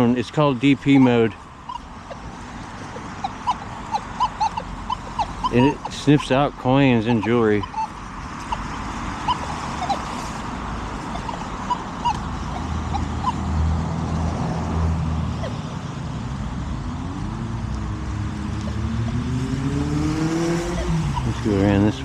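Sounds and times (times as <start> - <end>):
road traffic going by: 0.0 - 22.0
vehicle engine accelerating: 0.0 - 22.0.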